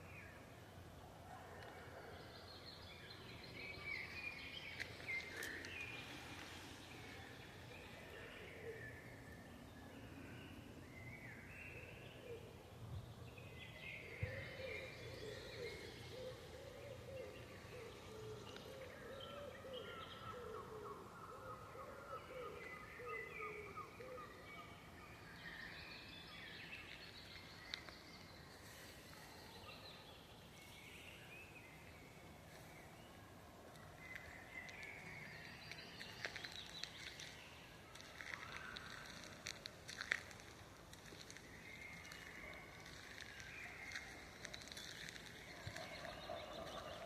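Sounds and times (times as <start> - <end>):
birds singing and calling: 1.5 - 40.4, 41.0 - 47.0.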